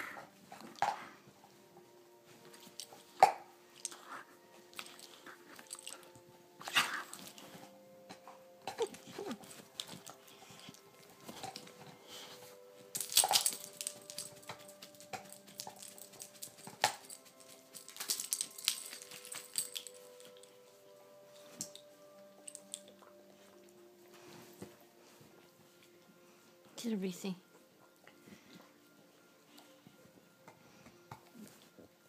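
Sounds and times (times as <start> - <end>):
bedding rustling: 0.0 - 32.0
faint background music: 0.0 - 32.0.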